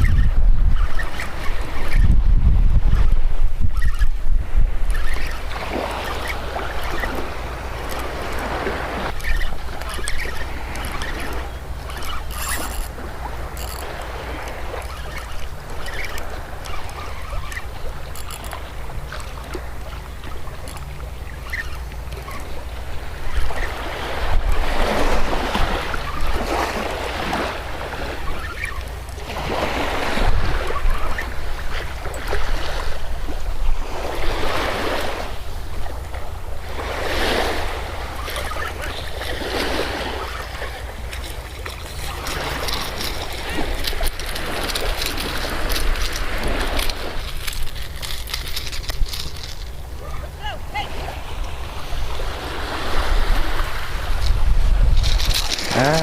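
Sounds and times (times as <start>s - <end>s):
surf waves breaking: 0.0s - 56.0s
wind rumble on microphone: 0.0s - 56.0s.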